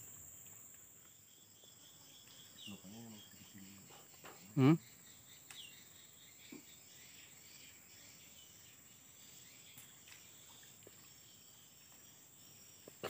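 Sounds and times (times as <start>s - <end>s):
high-pitched insect drone: 1.3s - 13.0s.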